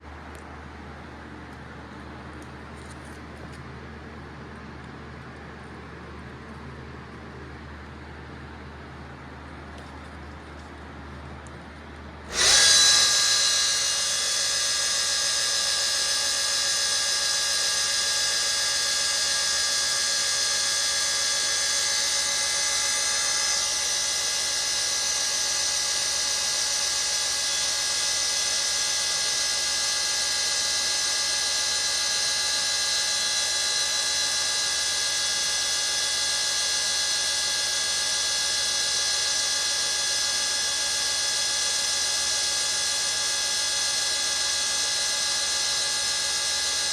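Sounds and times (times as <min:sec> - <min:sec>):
well pump motor whine: 0:00.0 - 0:46.9.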